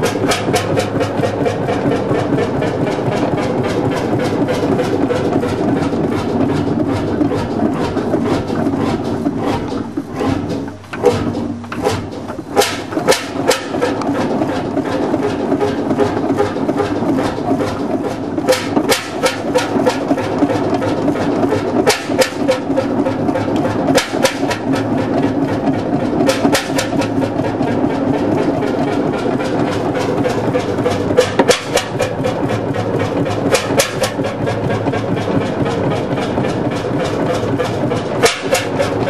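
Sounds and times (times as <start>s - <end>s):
marine engine running: 0.0s - 39.0s
sharp engine clicks and knocks: 0.0s - 39.0s.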